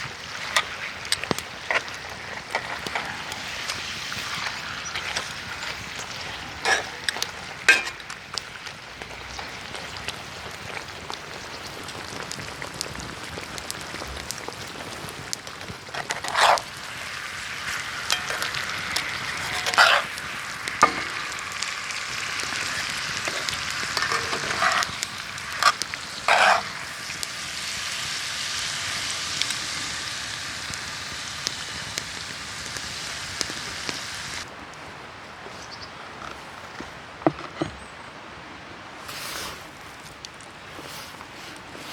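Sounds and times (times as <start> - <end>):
food sizzling in a pan: 0.0 - 34.5.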